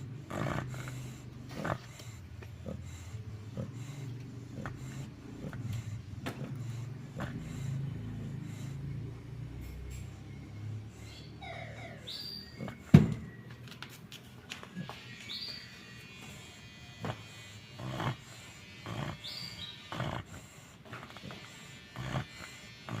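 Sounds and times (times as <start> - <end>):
dog snoring: 0.0 - 13.4, 14.6 - 23.0.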